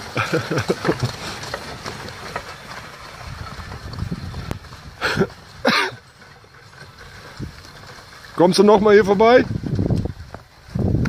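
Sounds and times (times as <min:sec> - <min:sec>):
carriage wheels and hooves rumbling: 0:00.0 - 0:11.0.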